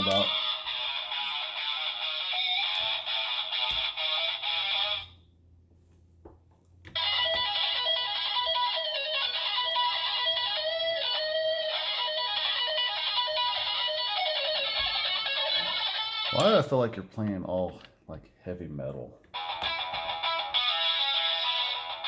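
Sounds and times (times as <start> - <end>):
electric guitar music: 0.0 - 5.1, 6.9 - 16.9, 19.4 - 22.0.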